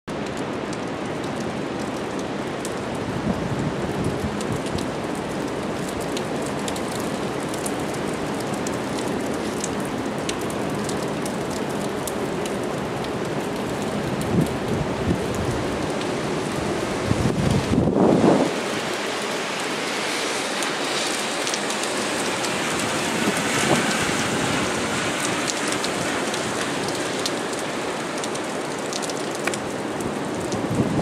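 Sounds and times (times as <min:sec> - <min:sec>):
heavy rain falling: 0:00.1 - 0:31.0.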